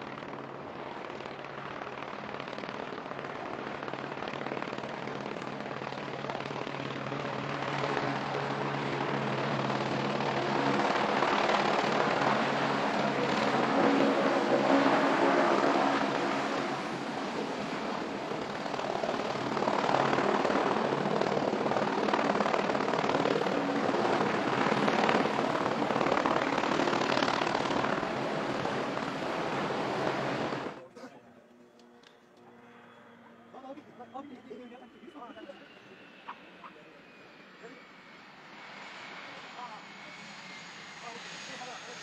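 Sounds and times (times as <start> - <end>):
helicopter flying low: 0.0 - 42.0.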